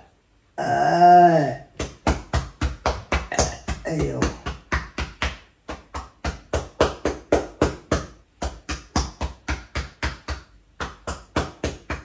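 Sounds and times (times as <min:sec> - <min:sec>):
hand pats: 0:01.8 - 0:12.0.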